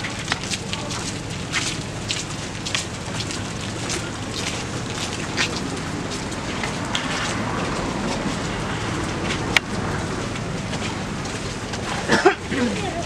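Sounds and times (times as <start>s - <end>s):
crowd footsteps on pavement: 0.0s - 13.0s.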